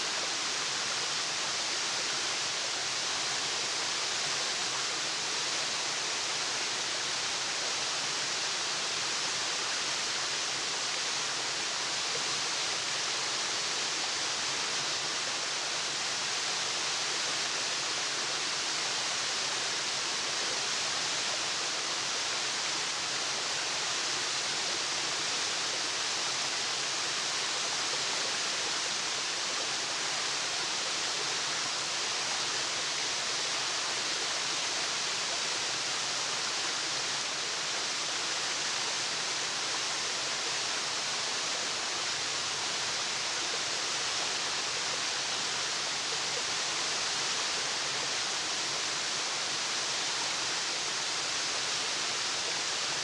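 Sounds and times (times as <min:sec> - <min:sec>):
waterfall hissing: 0:00.0 - 0:53.0.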